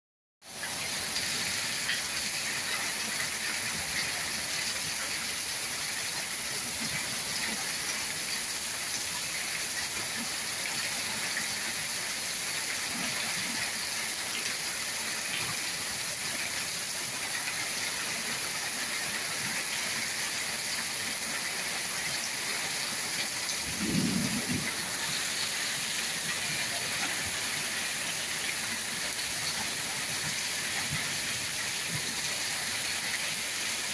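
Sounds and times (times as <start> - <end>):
rain falling on paving: 0.5 - 33.9.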